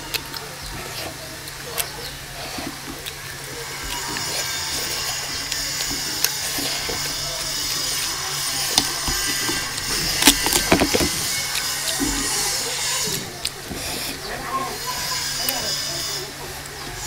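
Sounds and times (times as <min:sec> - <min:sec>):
bone cracking: 0:00.0 - 0:14.3
wet tearing of meat: 0:00.0 - 0:16.7.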